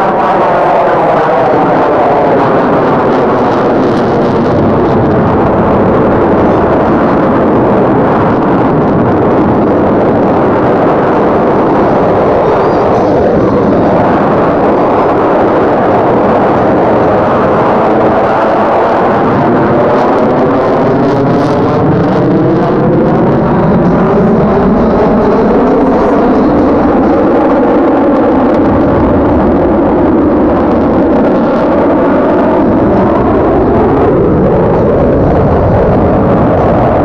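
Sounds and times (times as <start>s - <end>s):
jet roar overhead: 0.0s - 37.0s.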